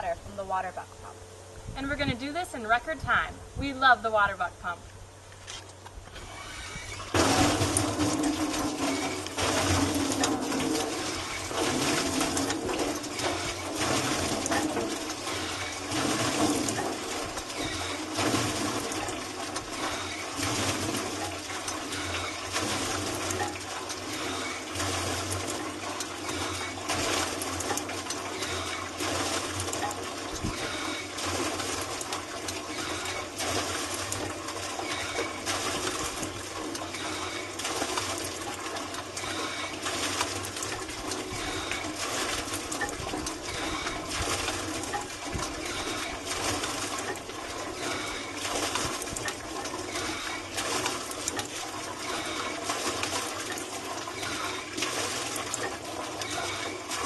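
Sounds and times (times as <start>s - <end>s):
water gushing from hand pump: 6.1s - 57.0s.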